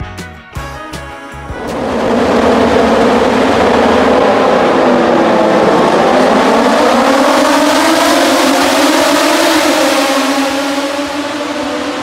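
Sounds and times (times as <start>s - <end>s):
racing motorcycle engines revving: 1.5s - 12.0s.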